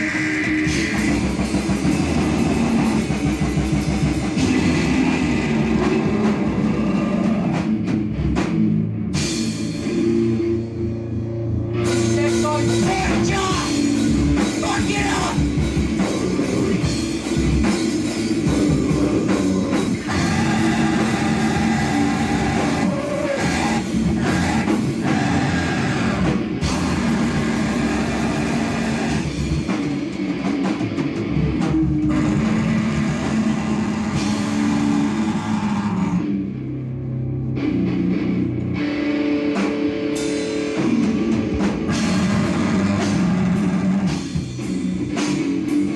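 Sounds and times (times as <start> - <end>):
distorted electric guitar: 0.0 - 45.9
drum kit: 0.0 - 45.9.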